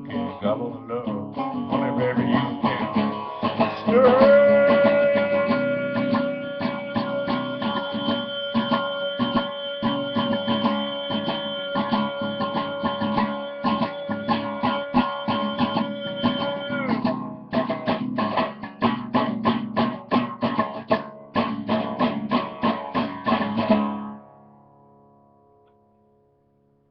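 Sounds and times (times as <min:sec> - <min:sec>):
guitar picking: 0:00.0 - 0:26.8.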